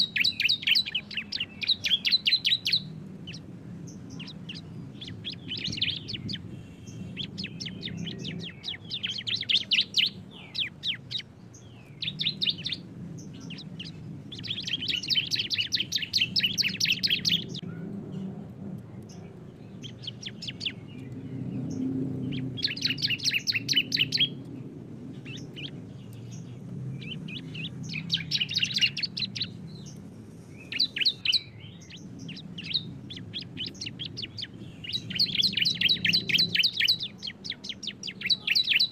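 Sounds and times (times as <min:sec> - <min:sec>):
birds singing rapid trills: 0:00.0 - 0:38.9
low steady background hum: 0:00.0 - 0:38.9.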